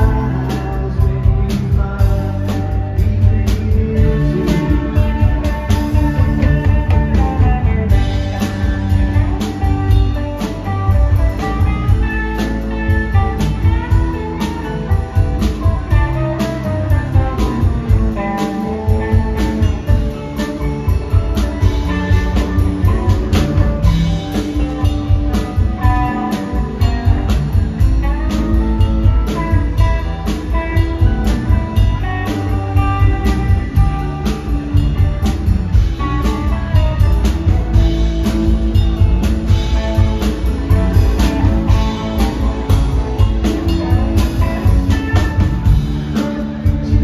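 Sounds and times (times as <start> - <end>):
bass guitar: 0.0 - 47.0
drum kit beat: 0.0 - 47.0
electric guitars: 0.0 - 47.0.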